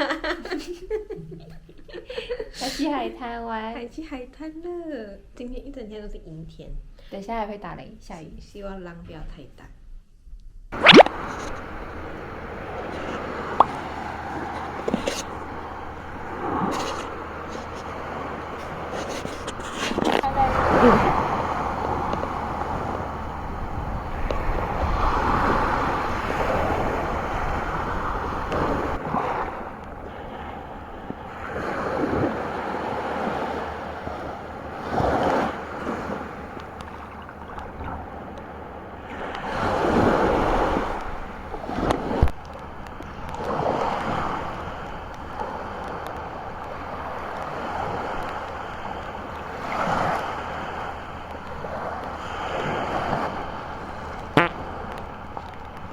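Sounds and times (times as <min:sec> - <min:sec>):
sea waves breaking on a beach: 0:10.8 - 0:55.9
wind gusting across microphone: 0:10.8 - 0:55.9.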